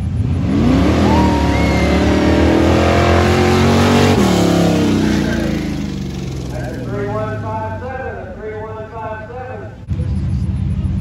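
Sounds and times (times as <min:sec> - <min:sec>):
truck engine revving hard: 0:00.0 - 0:09.6.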